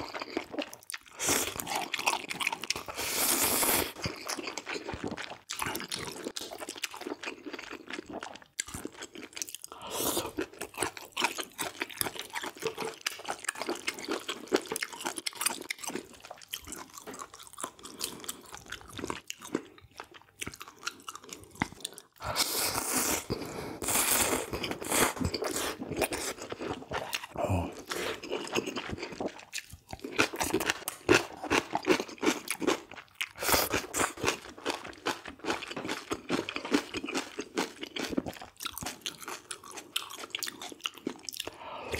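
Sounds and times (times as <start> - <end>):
close-miked noodle soup eating: 0.0 - 41.9.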